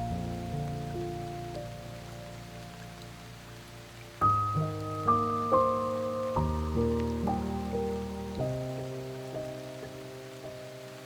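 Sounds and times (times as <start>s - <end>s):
rain: 0.0s - 11.0s
slow piano music: 0.0s - 11.0s.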